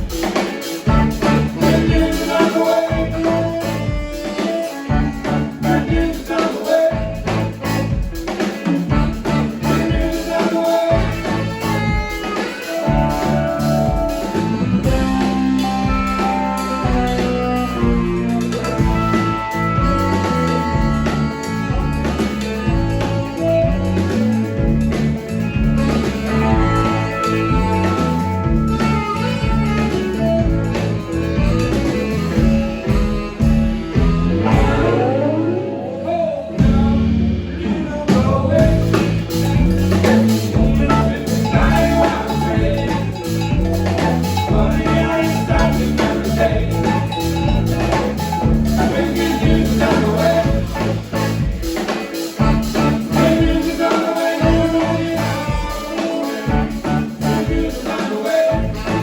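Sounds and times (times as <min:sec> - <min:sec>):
drums keeping a beat: 0:00.0 - 0:35.3, 0:36.5 - 0:59.0
bass line: 0:00.0 - 0:59.0
guitar: 0:00.0 - 0:59.0
live band playing: 0:00.0 - 0:59.0.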